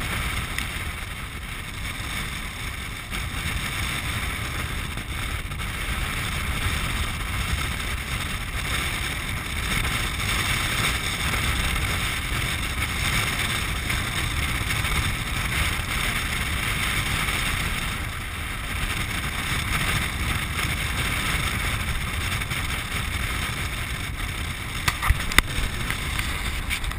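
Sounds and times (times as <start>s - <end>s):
craft rolling over hard ground: 0.0s - 26.9s
wind rushing over microphone: 0.0s - 26.9s.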